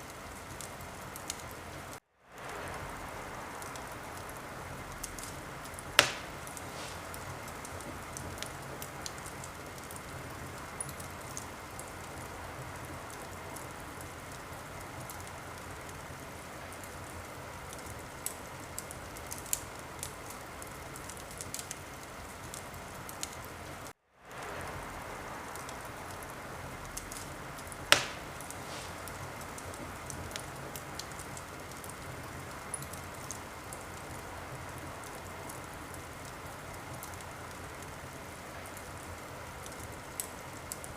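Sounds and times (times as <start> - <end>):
fire popping: 0.0 - 40.9
wood fire crackling: 0.0 - 40.9.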